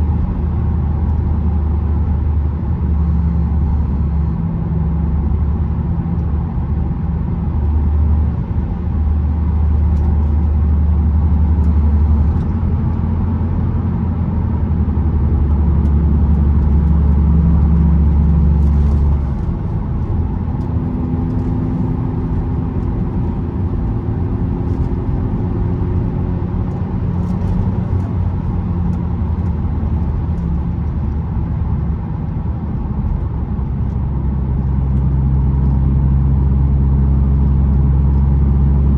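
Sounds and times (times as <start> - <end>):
car engine droning: 0.0 - 38.9
road noise: 0.0 - 38.9.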